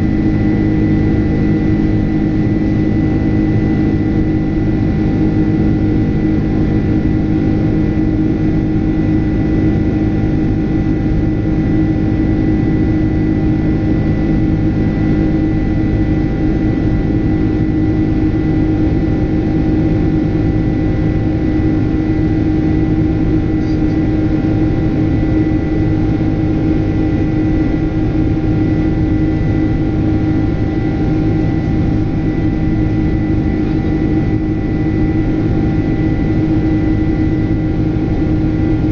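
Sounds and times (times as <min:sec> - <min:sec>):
constant whining tones: 0:00.0 - 0:38.9
jet engine drone in cabin: 0:00.0 - 0:38.9.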